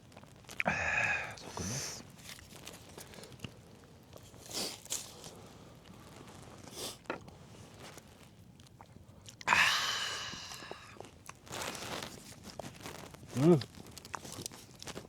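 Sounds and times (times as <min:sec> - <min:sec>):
quiet chewing: 0:00.1 - 0:09.5, 0:10.2 - 0:15.0.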